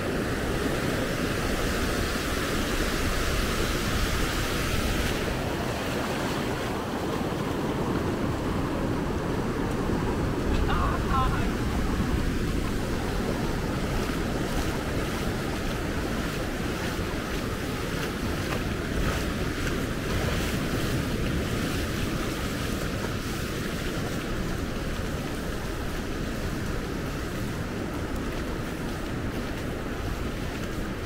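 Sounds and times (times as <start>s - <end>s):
ocean surf rushing: 0.0s - 31.0s
wind buffeting microphone: 0.0s - 31.0s.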